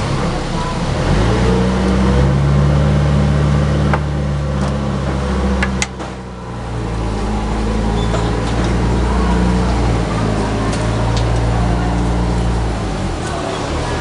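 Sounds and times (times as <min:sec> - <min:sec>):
forklift engine running: 0:00.0 - 0:14.0.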